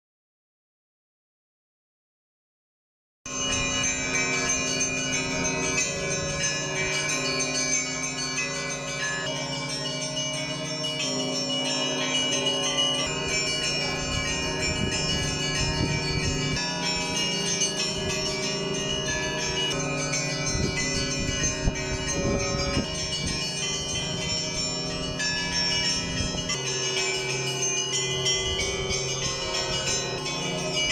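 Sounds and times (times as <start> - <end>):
church bells ringing: 3.3 - 30.9.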